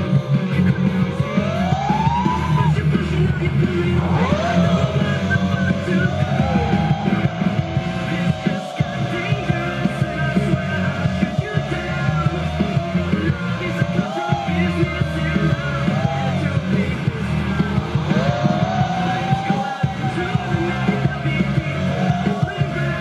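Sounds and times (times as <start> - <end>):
rock music with fast drum beat: 0.0 - 23.0.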